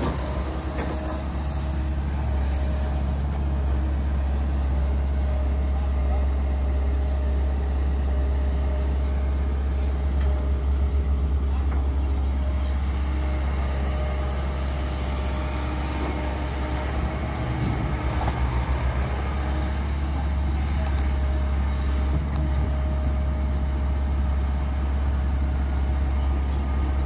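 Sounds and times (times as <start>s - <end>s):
excavator digging earth: 0.0s - 27.0s
heavy diesel engines running: 0.0s - 27.0s.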